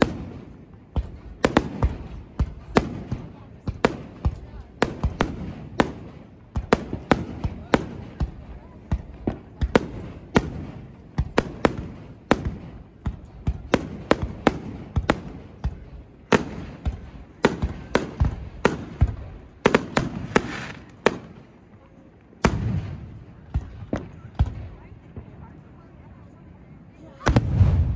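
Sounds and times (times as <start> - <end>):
fireworks bangs: 0.0 - 25.5, 27.1 - 27.9.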